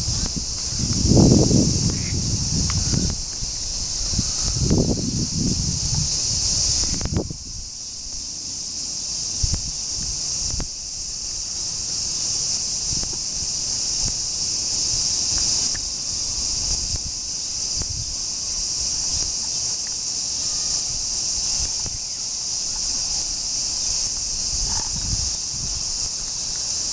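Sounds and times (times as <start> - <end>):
cicadas droning: 0.0 - 26.9.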